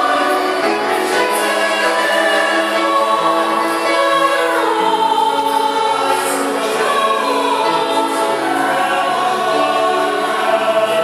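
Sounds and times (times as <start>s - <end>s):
mixed choir singing: 0.0s - 11.0s.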